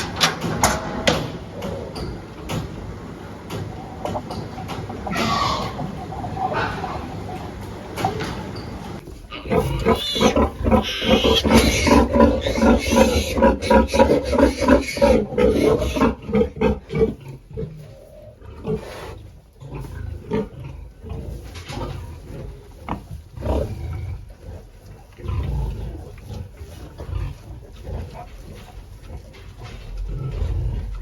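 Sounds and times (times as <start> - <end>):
pigs grunting: 0.0 - 31.0.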